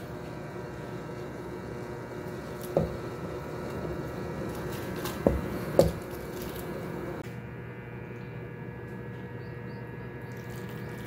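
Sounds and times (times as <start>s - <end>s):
induction cooktop humming: 0.0s - 11.0s.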